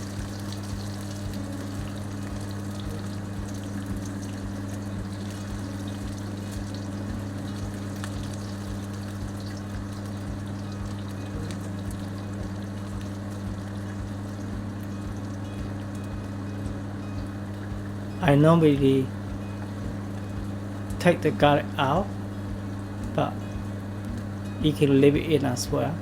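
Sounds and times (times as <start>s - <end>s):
onions sizzling in oil: 0.0s - 26.0s
steady low hum: 0.0s - 26.0s.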